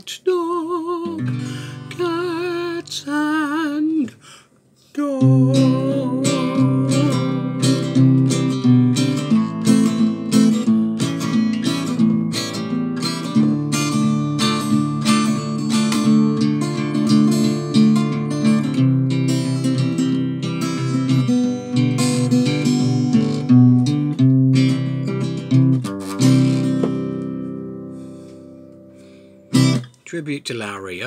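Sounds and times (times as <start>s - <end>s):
acoustic guitar strumming: 0.4s - 4.2s, 5.0s - 30.1s.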